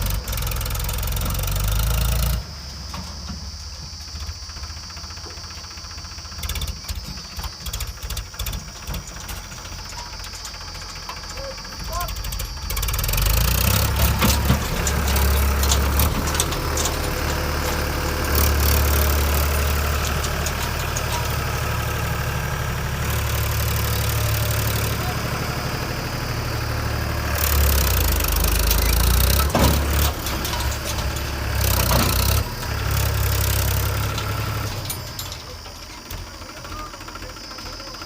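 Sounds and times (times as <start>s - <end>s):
backhoe diesel engine rumbling: 0.0s - 38.0s
clatter: 5.2s - 25.2s, 27.3s - 38.0s.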